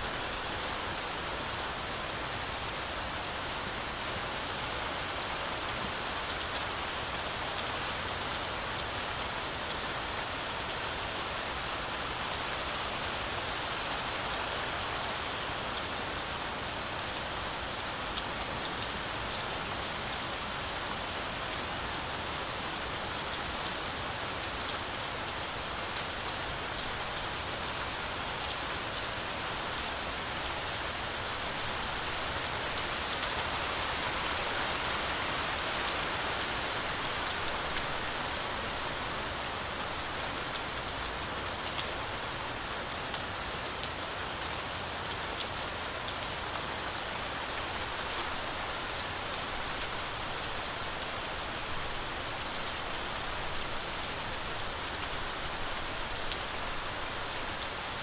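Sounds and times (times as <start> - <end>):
heavy rain falling: 0.0 - 58.0
raindrops pattering on leaves: 0.0 - 58.0.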